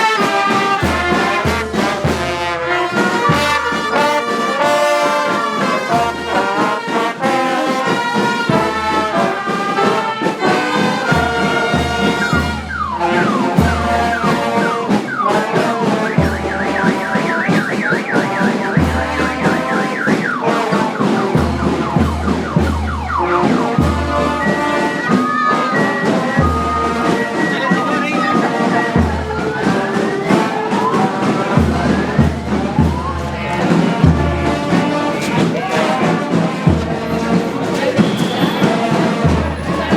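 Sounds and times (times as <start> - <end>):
brass band playing a tune: 0.0 - 39.9.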